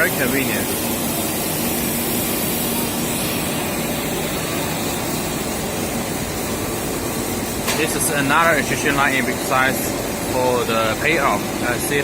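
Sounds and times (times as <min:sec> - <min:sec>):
low machine hum: 0:00.0 - 0:12.0
machinery hiss: 0:00.0 - 0:12.0.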